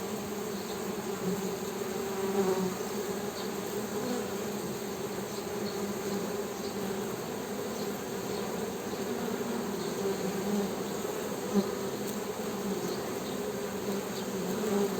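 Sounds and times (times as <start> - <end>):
honey bees buzzing: 0.0 - 14.9.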